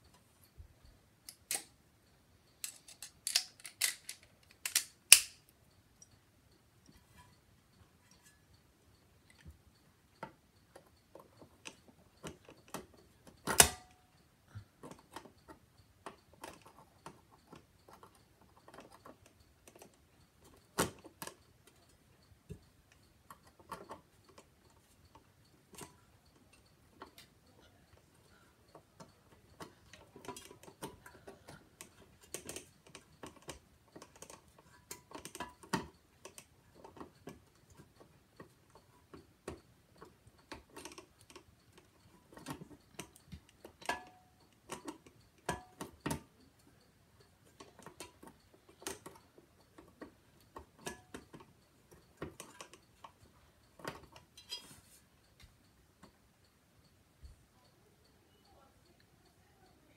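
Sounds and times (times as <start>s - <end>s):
light clicks and taps of parts: 0.0s - 59.9s.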